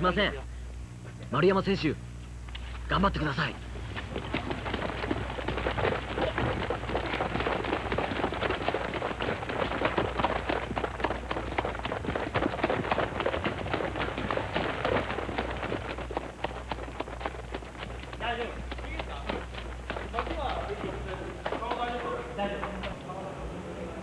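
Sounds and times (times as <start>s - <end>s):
steady low hum: 0.0s - 24.0s
footsteps on wet pavement: 3.7s - 23.0s.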